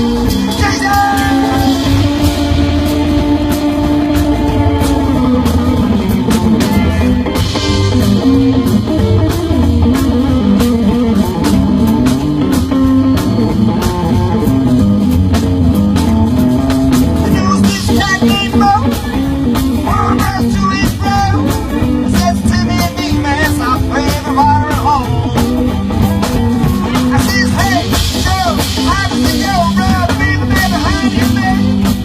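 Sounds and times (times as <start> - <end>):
electric guitar notes: 0.0 - 32.0
rockabilly band playing live: 0.0 - 32.0.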